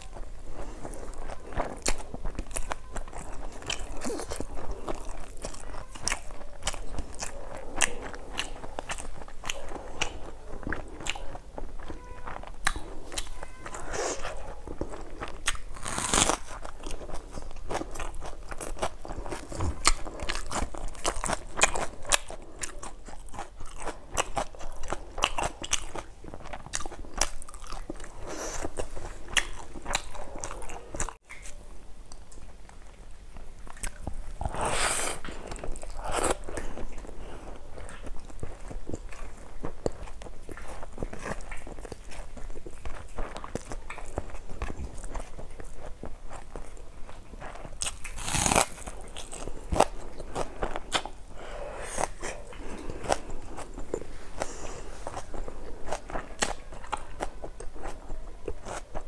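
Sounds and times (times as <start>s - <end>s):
crunching and wet chewing: 0.0s - 59.0s.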